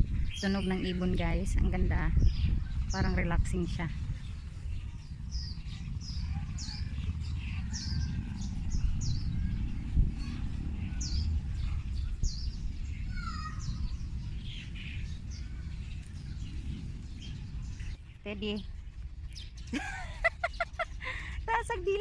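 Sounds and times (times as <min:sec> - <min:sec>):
low rumble: 0:00.0 - 0:22.0
songbirds chirping: 0:00.0 - 0:22.0.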